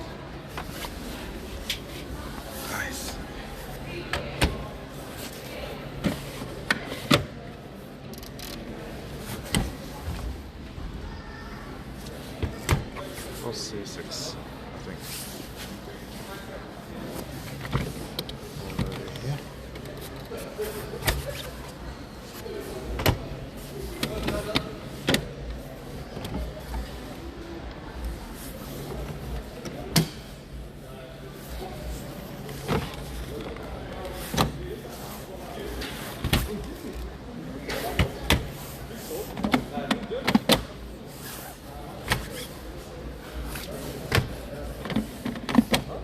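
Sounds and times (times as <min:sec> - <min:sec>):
murmur of background voices: 0:00.0 - 0:46.0
room noise: 0:00.0 - 0:46.0.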